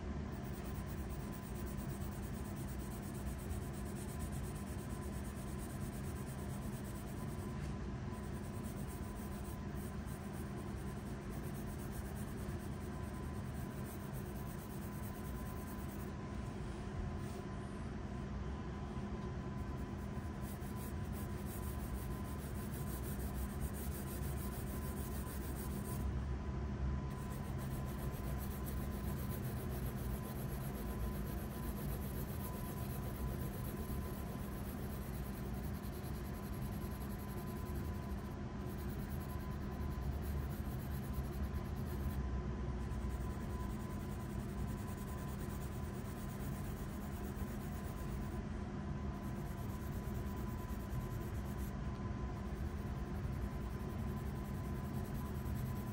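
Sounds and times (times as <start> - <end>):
steady hum: 0.0 - 55.9
pencil scratching on paper: 0.3 - 16.1, 19.6 - 26.1, 27.1 - 42.2, 42.8 - 48.4, 49.2 - 51.7, 52.3 - 55.9.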